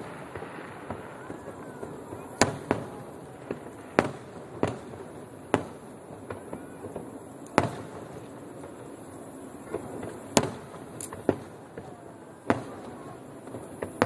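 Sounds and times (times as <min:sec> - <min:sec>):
background hiss: 0:00.0 - 0:14.0
fireworks bangs: 0:00.0 - 0:14.0.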